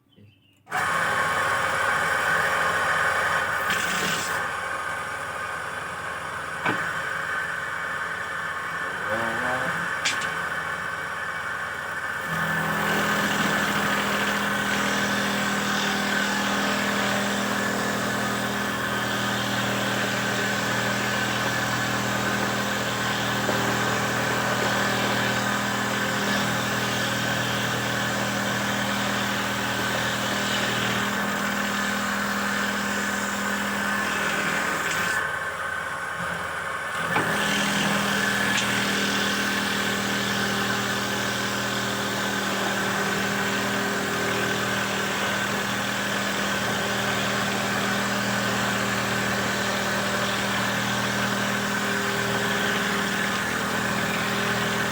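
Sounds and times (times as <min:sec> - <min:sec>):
machine motor hum with whine: 0:00.8 - 0:54.9.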